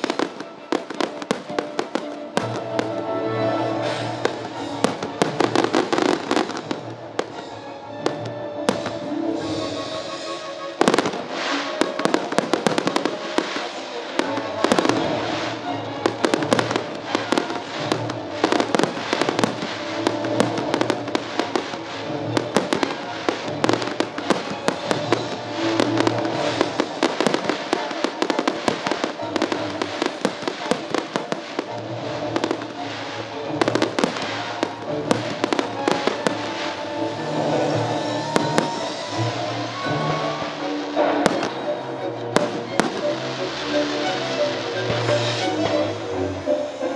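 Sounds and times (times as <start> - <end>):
fireworks bangs and pops: 0.0 - 46.0
show music: 0.0 - 46.9.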